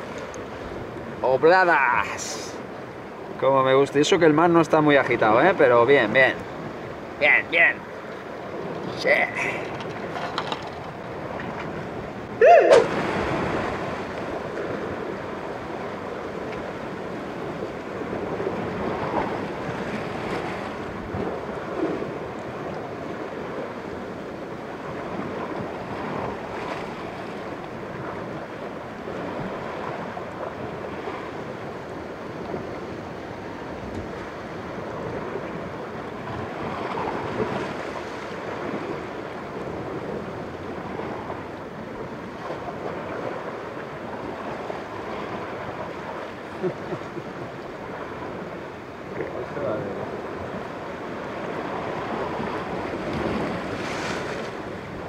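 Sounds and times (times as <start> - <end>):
waves washing against rocks: 0.0 - 55.0
wind on the microphone: 4.8 - 55.0.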